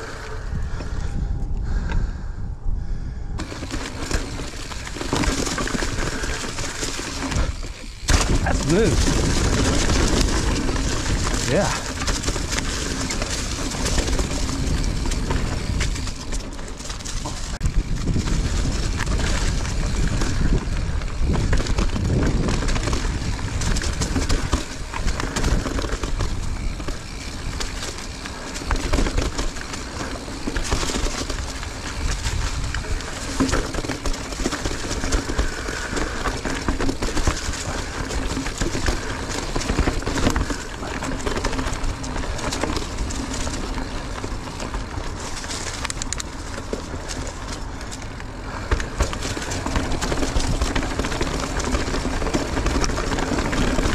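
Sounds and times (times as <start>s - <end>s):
wind rumble: 0.0s - 53.9s
bike clicks and rattling knocks: 3.4s - 53.9s
tyres on dirt: 3.4s - 53.9s.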